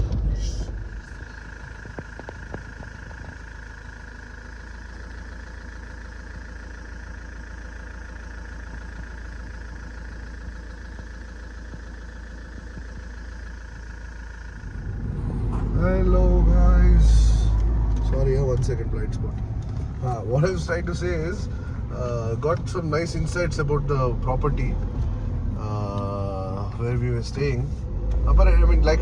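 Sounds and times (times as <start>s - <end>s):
vehicle road rumble: 0.0s - 29.0s.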